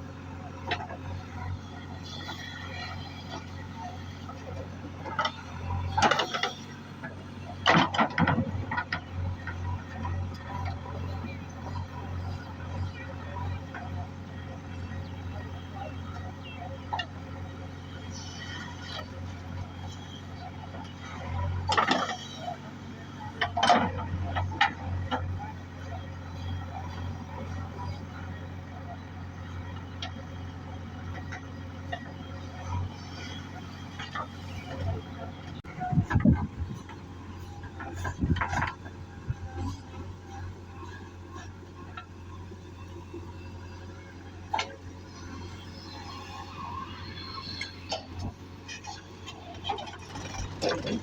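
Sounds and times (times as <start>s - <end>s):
backhoe diesel engine running: 0.0s - 51.0s.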